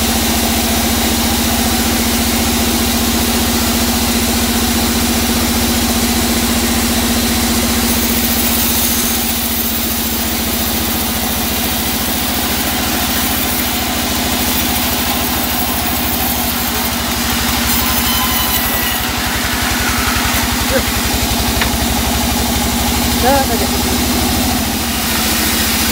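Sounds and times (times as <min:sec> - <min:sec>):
band saw cutting through log: 0:00.0 - 0:25.9.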